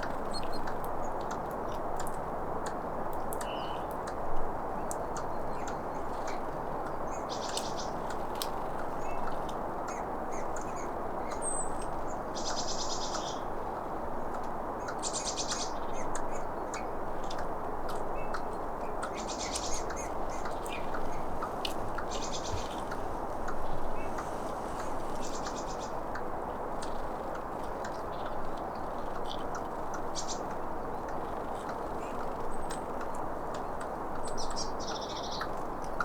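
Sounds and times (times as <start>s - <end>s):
low background hiss: 0.0s - 36.0s.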